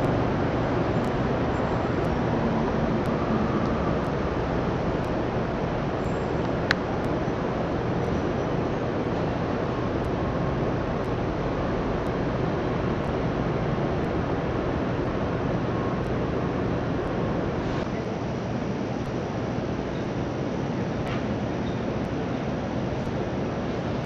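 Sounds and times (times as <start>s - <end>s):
rushing city ambience: 0.0s - 24.0s.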